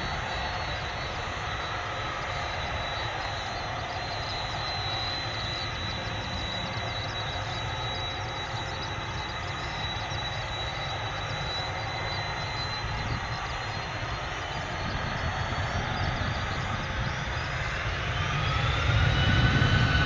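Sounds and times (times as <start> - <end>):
distant jet engines running: 0.0 - 20.0.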